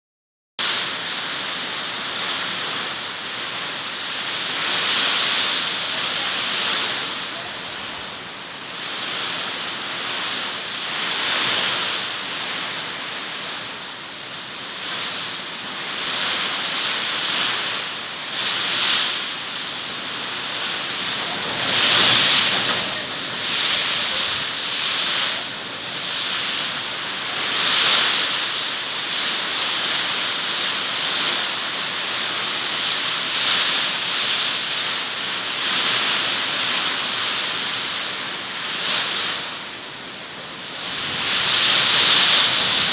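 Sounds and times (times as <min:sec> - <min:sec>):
heavy rain downpour: 0:00.6 - 0:42.9.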